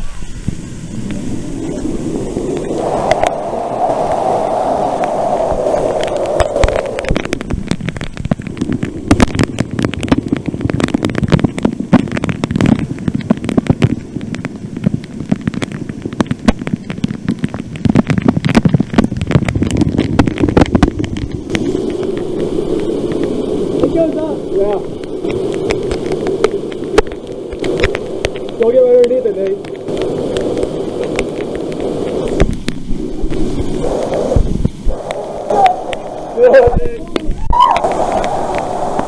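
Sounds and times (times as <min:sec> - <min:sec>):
waterfall pouring into pool: 0:00.0 - 0:39.0
water spattering on microphone: 0:00.3 - 0:39.0.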